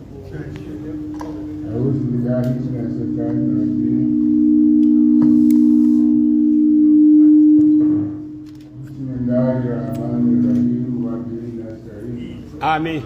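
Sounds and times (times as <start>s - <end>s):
low feedback tone: 0.0s - 12.6s.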